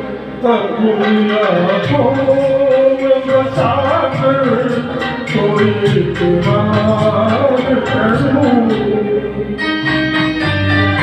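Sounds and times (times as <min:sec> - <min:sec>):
sustained melody line: 0:00.0 - 0:11.0
light steady percussion: 0:01.0 - 0:11.0.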